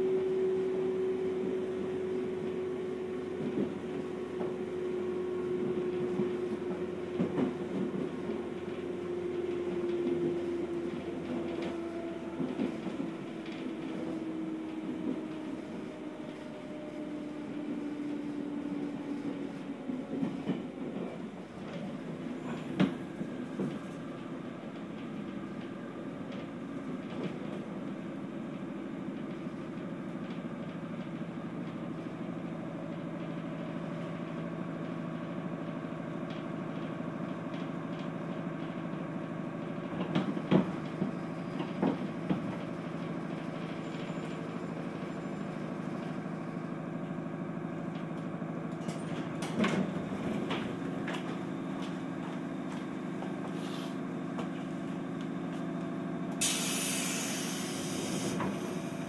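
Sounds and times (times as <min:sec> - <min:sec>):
train low hum: 0:00.0 - 0:59.0.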